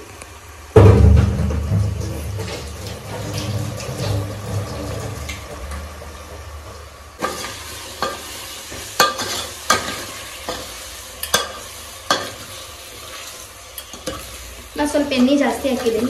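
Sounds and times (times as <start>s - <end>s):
chicken sizzling in hot oil: 0.4s - 16.0s.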